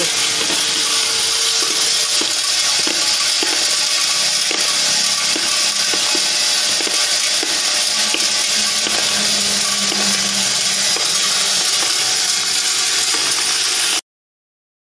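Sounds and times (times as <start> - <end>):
bowl feeder hum: 0.0 - 14.0
metal pins rattling and clinking: 0.0 - 14.0.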